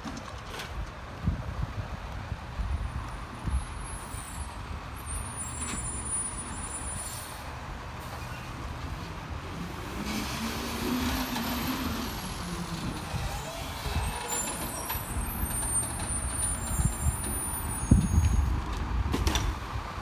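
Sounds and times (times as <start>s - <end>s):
garbage truck diesel engine rumble: 0.0s - 20.0s.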